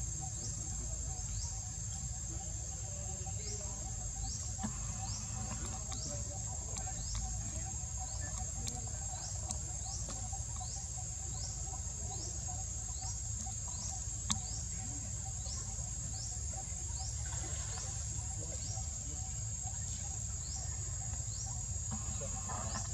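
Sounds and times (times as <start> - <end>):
insects buzzing: 0.0 - 22.9.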